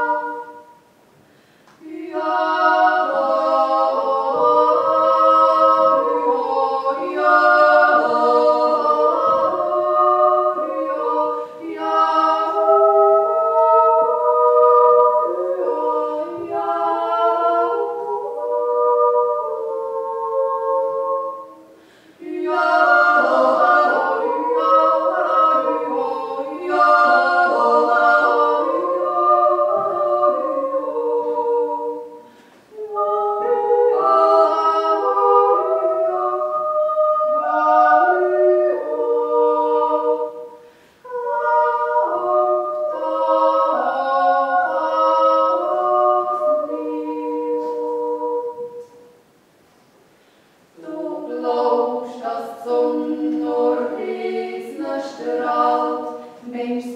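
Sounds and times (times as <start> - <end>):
women singing in harmony: 0.0 - 0.9, 1.7 - 49.2, 50.8 - 56.9.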